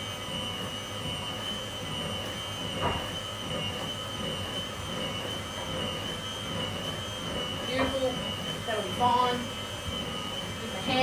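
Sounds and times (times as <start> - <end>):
hand mixer whirring: 0.0 - 11.0.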